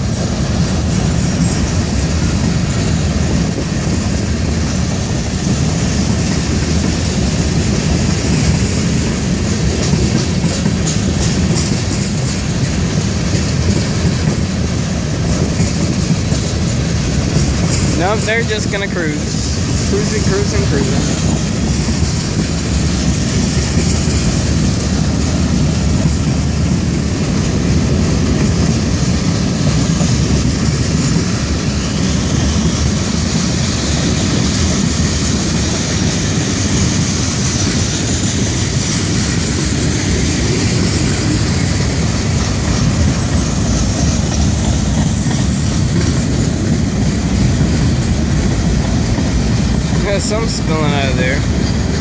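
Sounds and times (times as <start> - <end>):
freight train cars rolling past: 0.0 - 52.0.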